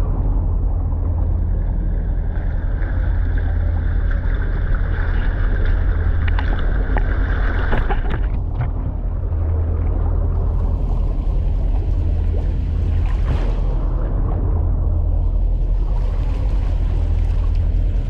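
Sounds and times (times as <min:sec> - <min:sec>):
water rushing and splashing: 0:00.0 - 0:18.0
wind rumble on microphone: 0:00.0 - 0:18.0.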